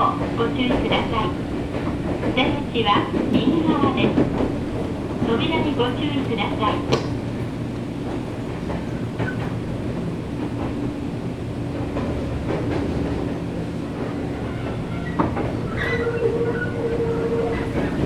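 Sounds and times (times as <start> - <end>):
electric train rumbling on track: 0.0 - 18.0
wheels clunking over rail joints: 0.0 - 18.0.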